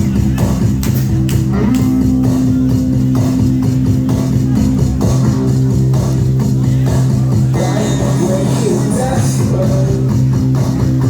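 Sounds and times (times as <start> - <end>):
live rock band playing: 1.4 - 11.0.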